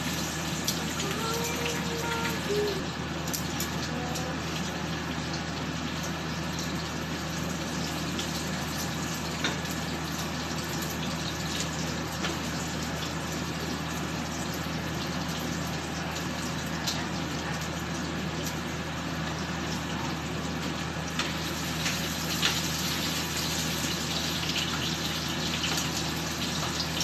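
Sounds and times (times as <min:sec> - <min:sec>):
pork sizzling in hot oil: 0:00.0 - 0:27.0.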